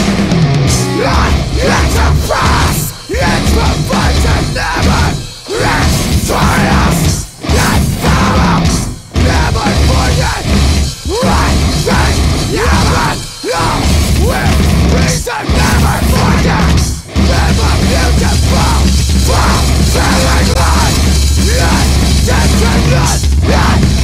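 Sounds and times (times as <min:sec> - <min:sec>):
heavy metal band playing: 0:00.0 - 0:24.0.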